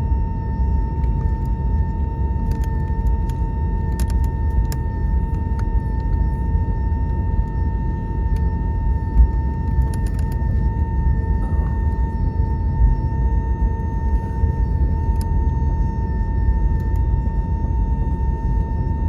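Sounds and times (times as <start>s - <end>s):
airplane cabin rumble: 0.0s - 19.0s
constant whine: 0.0s - 19.0s.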